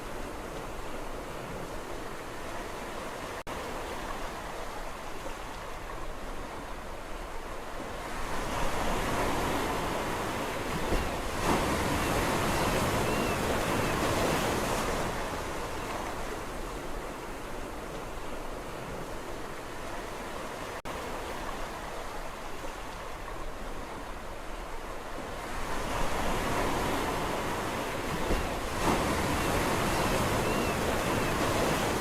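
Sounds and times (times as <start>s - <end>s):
sea waves washing on shore: 0.0s - 32.0s.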